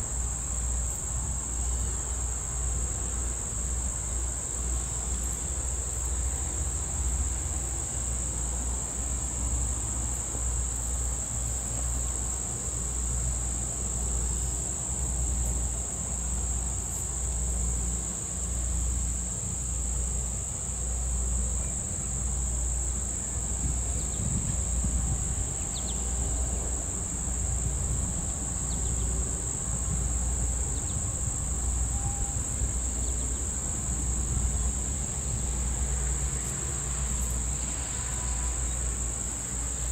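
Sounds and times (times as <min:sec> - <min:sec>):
insects trilling in chorus: 0:00.0 - 0:39.9.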